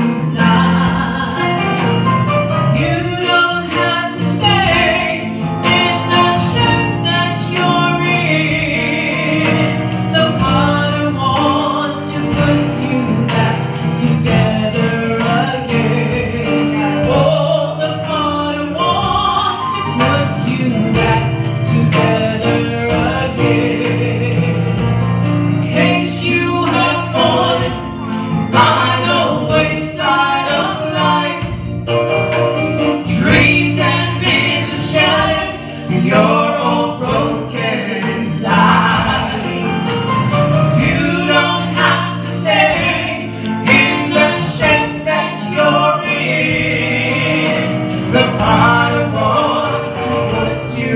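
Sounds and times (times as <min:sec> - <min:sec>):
women singing gospel: 0:00.0 - 0:02.0, 0:02.7 - 0:24.5, 0:25.6 - 0:31.9, 0:32.9 - 0:50.9
keyboard and band accompaniment: 0:00.0 - 0:50.9.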